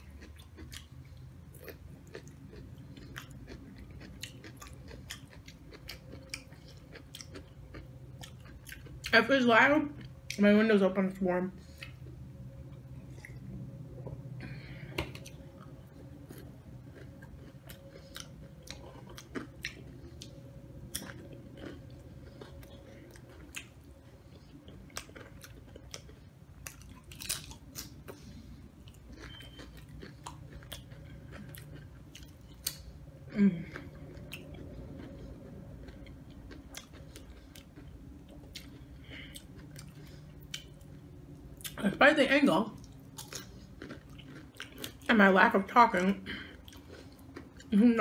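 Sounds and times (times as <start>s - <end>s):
chewing crunchy chips: 0.0s - 10.4s, 14.4s - 41.8s, 42.7s - 48.0s
steady low hum: 0.0s - 48.0s.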